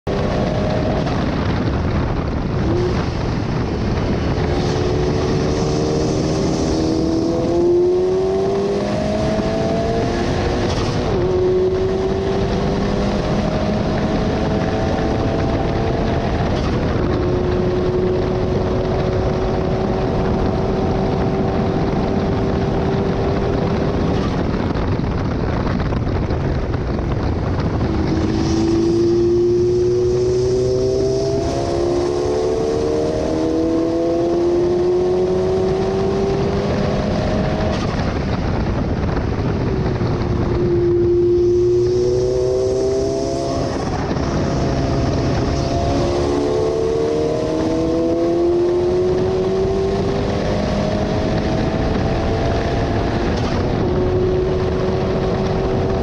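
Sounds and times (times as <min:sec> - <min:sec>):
car engine at full throttle: 0:00.0 - 0:56.0
wind and road noise: 0:00.0 - 0:56.0.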